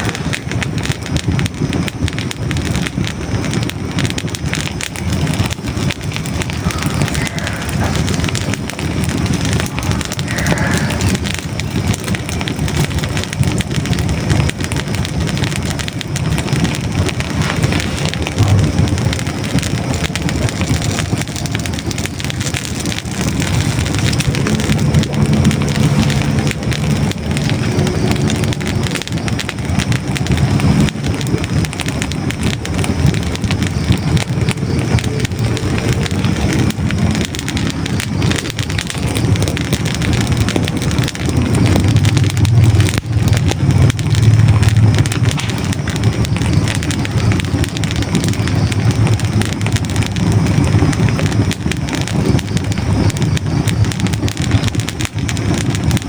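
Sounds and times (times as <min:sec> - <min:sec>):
logs crackling in fireplace: 0:00.0 - 0:56.0
low rush of flame: 0:00.0 - 0:56.0.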